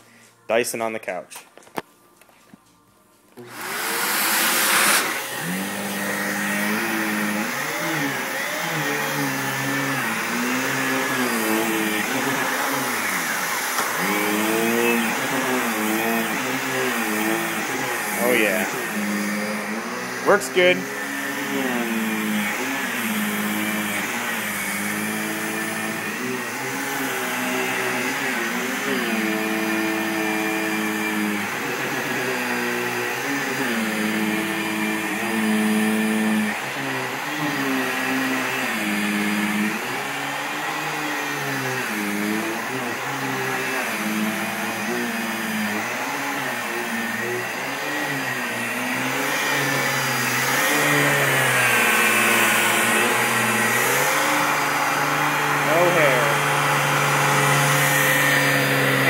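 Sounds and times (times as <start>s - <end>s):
vacuum cleaner on cushions: 3.3s - 59.0s.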